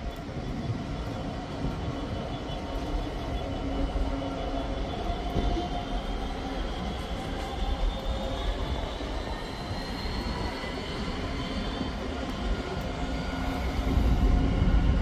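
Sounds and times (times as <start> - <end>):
diesel locomotive engine drone: 0.0 - 15.0
rumble of train wagons: 0.0 - 15.0.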